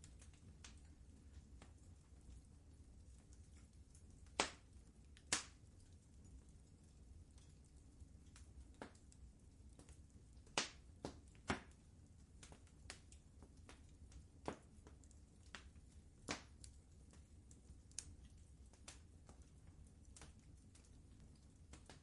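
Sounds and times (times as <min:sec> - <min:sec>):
faint low rumble: 0:00.0 - 0:22.0
wood fire crackling: 0:00.0 - 0:22.0.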